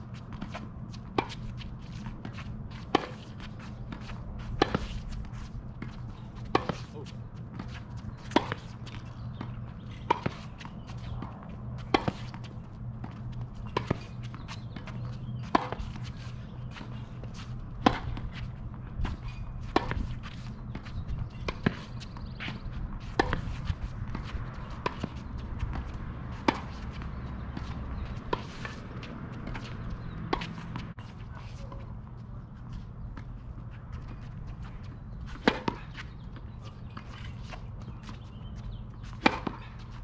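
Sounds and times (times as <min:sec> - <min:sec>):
steady low hum: 0:00.0 - 0:40.0
tennis balls struck by rackets: 0:00.3 - 0:31.0, 0:34.2 - 0:40.0.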